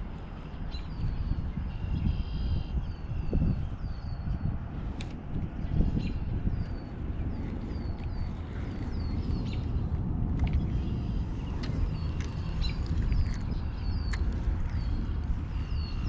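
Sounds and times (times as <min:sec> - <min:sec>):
steady low rumble: 0:00.0 - 0:16.0
small birds chirping: 0:00.3 - 0:16.0.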